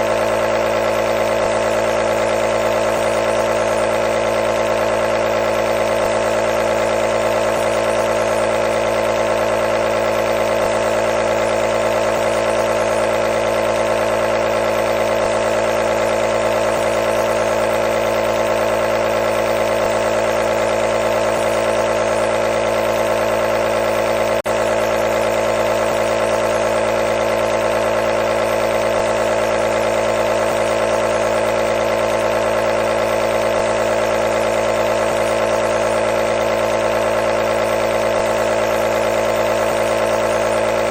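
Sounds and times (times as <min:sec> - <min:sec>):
compressor motor humming: 0:00.0 - 0:40.9.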